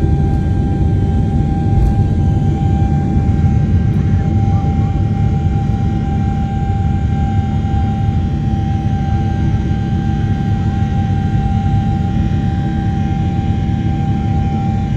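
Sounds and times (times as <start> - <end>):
jet engine rumble in cabin: 0.0 - 14.9
jet engine whine: 0.0 - 14.9.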